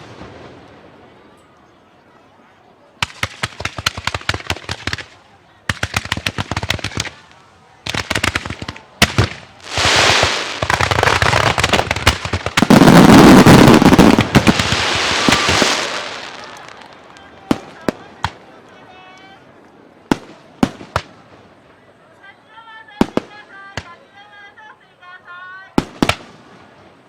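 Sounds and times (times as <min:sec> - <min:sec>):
fireworks crackling pops: 0:00.0 - 0:00.9, 0:03.0 - 0:21.8, 0:23.0 - 0:24.1, 0:25.8 - 0:27.0.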